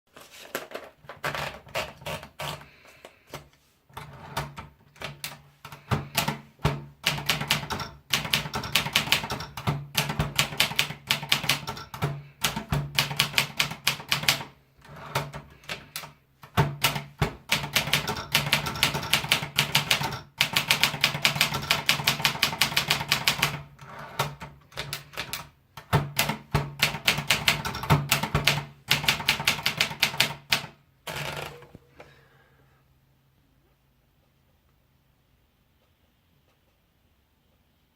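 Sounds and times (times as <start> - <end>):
manual typewriter typing: 0.4 - 31.8.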